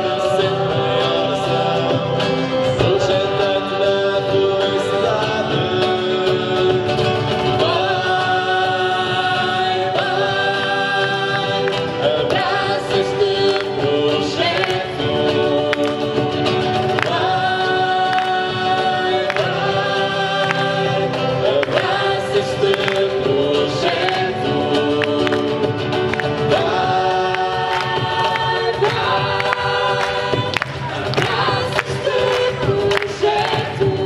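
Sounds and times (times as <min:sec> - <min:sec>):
acoustic guitars strumming: 0:00.0 - 0:34.0
group singing: 0:00.0 - 0:34.0
cajon beat: 0:00.6 - 0:34.0.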